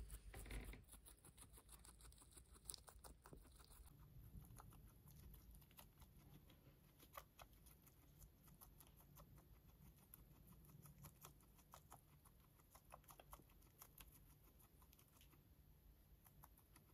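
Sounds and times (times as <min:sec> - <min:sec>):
guinea pig chewing lettuce: 0:00.0 - 0:16.9.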